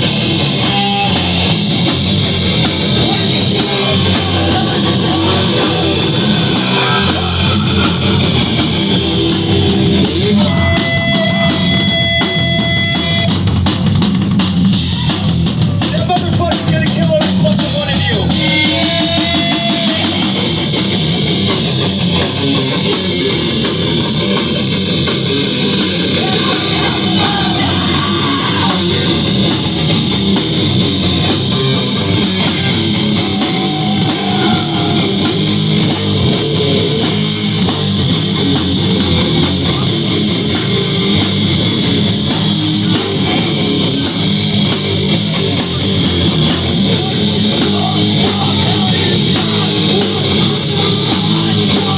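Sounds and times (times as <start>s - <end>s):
bass guitar: 0.0s - 51.9s
distorted electric guitar: 0.0s - 51.9s
drum kit: 0.0s - 51.9s.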